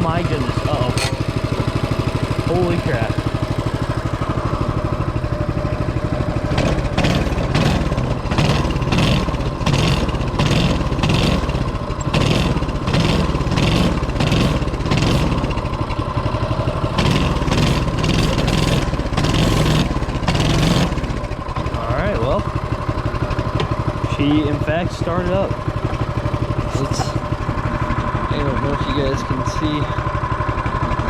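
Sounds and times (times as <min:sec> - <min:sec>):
small engine surging: 0:00.0 - 0:31.0.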